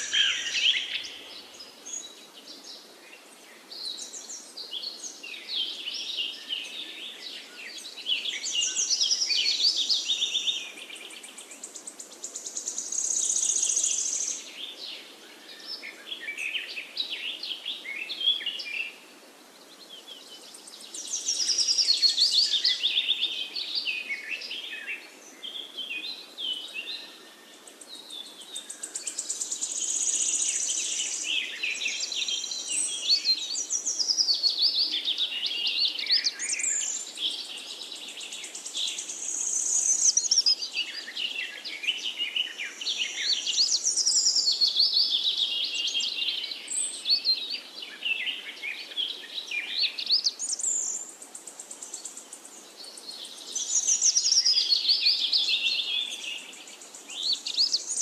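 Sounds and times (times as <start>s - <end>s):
faint hiss: 0.0s - 58.0s
songbirds singing: 0.0s - 58.0s.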